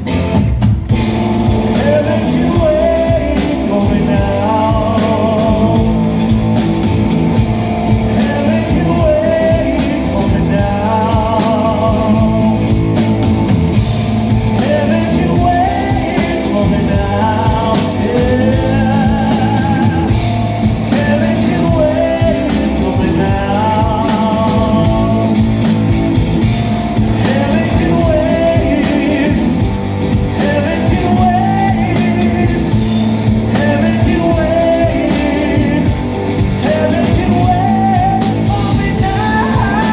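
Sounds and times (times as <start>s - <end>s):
drums: 0.0s - 39.9s
guitar: 0.0s - 39.9s.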